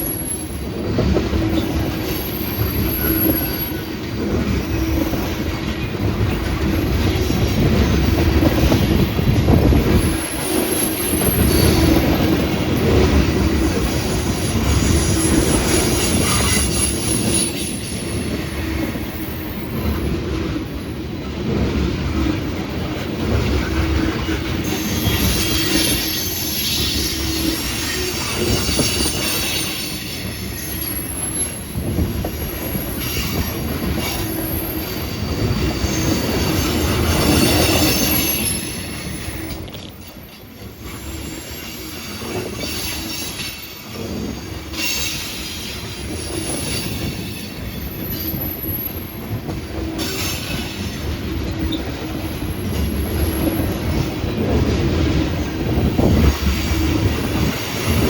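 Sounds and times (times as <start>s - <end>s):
freight train rumble: 0.0s - 58.0s.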